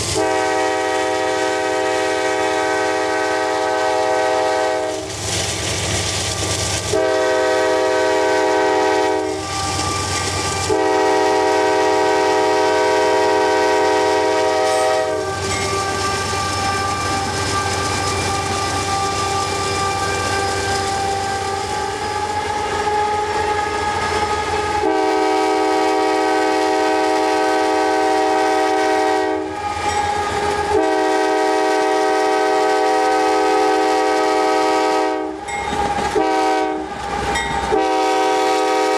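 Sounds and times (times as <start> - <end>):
train rumble and rail noise: 0.0 - 38.9
locomotive air horn blasts: 0.1 - 5.2, 6.9 - 35.5, 36.1 - 38.9.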